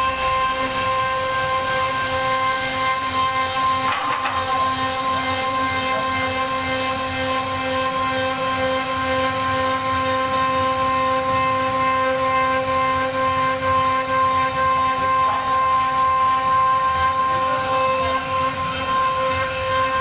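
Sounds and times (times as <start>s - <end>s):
router bit cutting wood: 0.0s - 20.0s
router spindle high whine: 0.0s - 20.0s.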